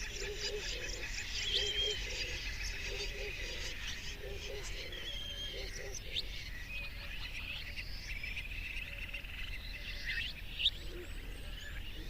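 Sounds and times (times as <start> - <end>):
small birds chirping and trilling: 0.0 - 12.0.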